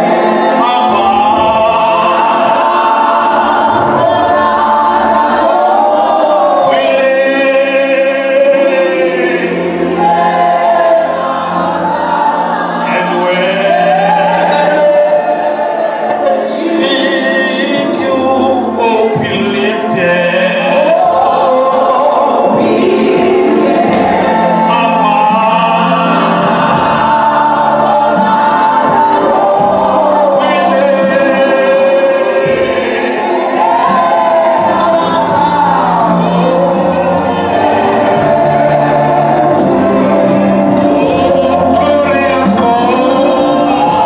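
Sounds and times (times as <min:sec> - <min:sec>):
women's choir singing gospel: 0:00.0 - 0:44.0.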